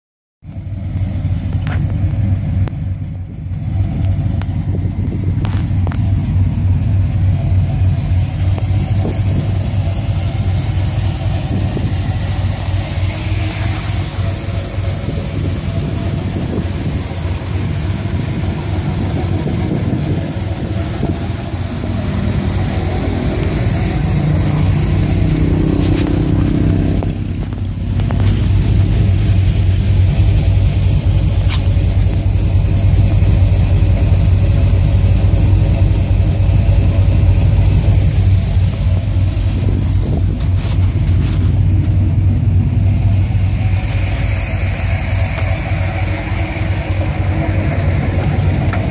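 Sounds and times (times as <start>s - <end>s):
truck engine idling: 0.4s - 48.9s.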